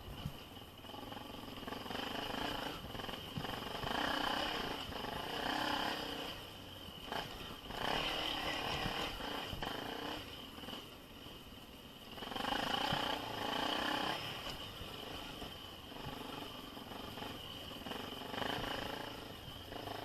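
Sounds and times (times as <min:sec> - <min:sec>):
dirt bike engine revving: 0:00.8 - 0:10.9, 0:12.0 - 0:20.0.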